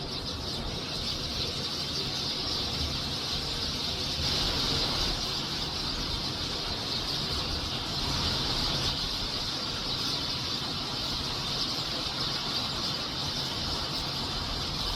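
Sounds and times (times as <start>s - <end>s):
flock of sparrows chirping: 0.0s - 14.9s.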